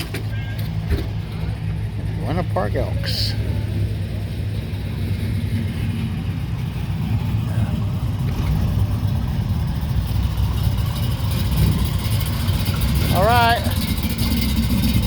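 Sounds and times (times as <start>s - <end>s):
car engines low rumble: 0.0s - 15.0s.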